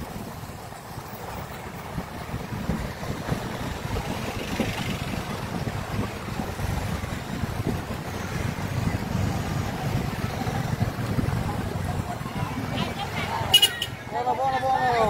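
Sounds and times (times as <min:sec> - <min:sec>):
wind buffeting microphone: 0:00.0 - 0:13.4
motorcycle and car engines rumbling: 0:00.0 - 0:15.0.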